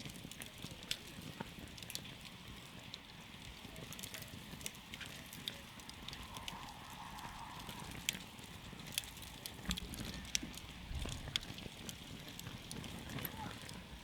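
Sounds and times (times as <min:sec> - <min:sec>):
campfire crackling: 0:00.0 - 0:14.0
rush of flames: 0:00.0 - 0:14.0.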